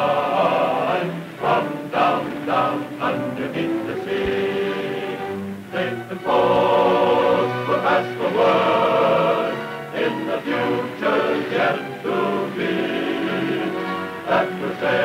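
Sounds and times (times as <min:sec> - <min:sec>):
choir singing march: 0:00.0 - 0:15.0.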